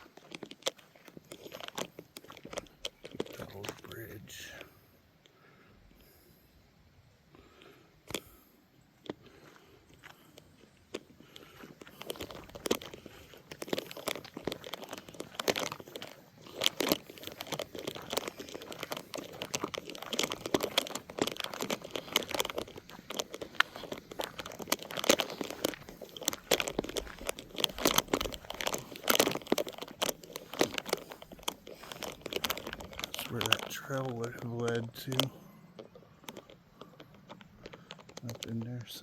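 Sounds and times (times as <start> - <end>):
irregular crunching and crackling: 0.0 - 6.7, 7.3 - 39.0.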